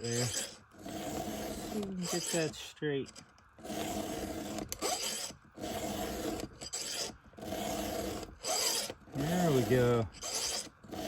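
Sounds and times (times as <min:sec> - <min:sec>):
file rasping on chain: 0:00.0 - 0:11.0.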